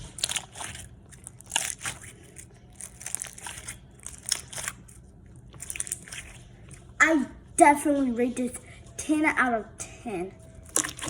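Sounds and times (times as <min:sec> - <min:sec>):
slime squelching: 0:00.0 - 0:11.0.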